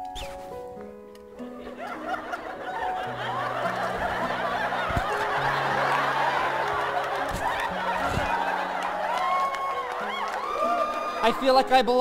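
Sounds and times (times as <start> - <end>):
audience laughing: 1.5 - 11.3.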